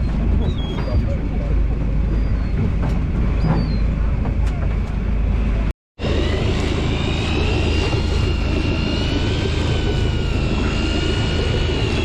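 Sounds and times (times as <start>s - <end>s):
motorboat engine drone: 0.0s - 12.0s.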